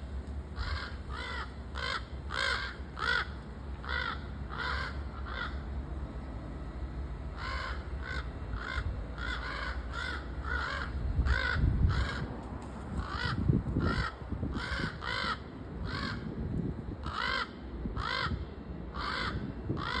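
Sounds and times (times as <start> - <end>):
crows cawing: 0.5 - 5.7, 7.4 - 12.3, 12.9 - 16.3, 17.0 - 20.0.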